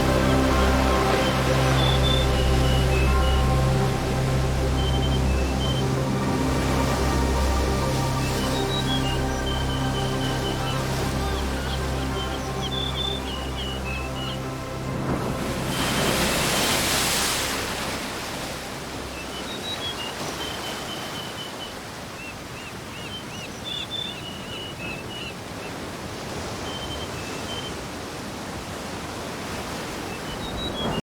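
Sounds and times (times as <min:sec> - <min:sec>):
rushing nature ambience: 0:00.0 - 0:31.0.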